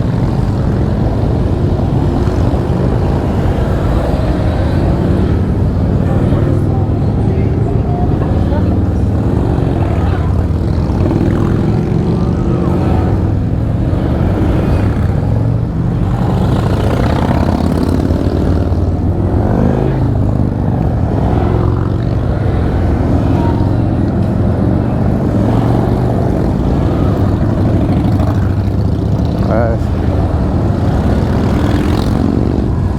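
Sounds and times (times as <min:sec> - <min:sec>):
motorcycle engines droning: 0:00.0 - 0:32.9
motorcycle passing by: 0:00.0 - 0:32.9.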